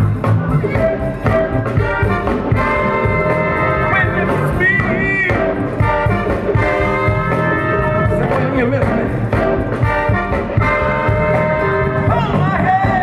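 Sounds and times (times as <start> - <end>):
drum groove: 0.0 - 13.0
electric bass: 0.0 - 13.0
horn section chords: 0.0 - 13.0
keyboards: 0.0 - 13.0.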